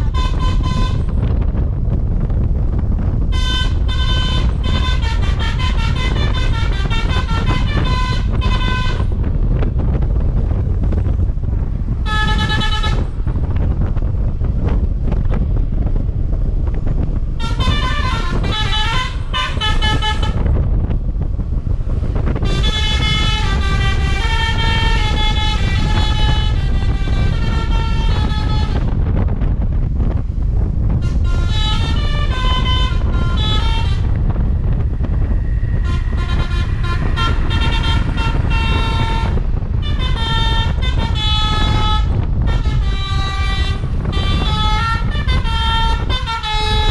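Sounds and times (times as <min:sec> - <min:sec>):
bus horn playing multi-note tunes: 0:00.0 - 0:01.6, 0:03.1 - 0:09.7, 0:11.9 - 0:13.4, 0:17.3 - 0:20.9, 0:22.0 - 0:46.9
bus engine rumble: 0:00.0 - 0:46.9.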